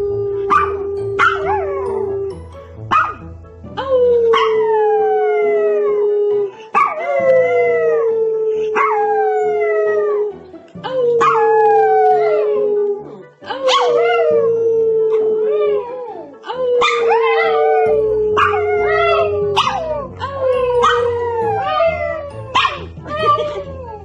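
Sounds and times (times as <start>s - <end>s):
dog howling: 0.0s - 3.1s, 3.8s - 10.4s, 11.0s - 24.0s.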